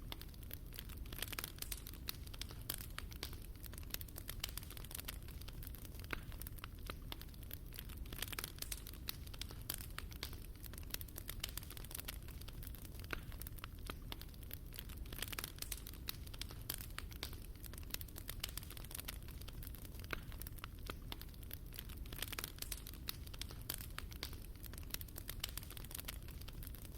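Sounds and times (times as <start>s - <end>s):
fire crackling: 0.0s - 26.9s.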